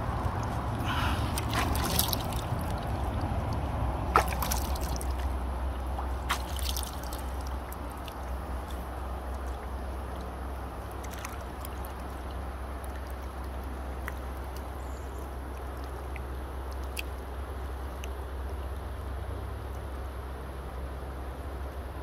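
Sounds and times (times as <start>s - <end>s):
river water flowing and lapping: 0.0s - 22.0s
small splashes and drips: 0.3s - 20.2s.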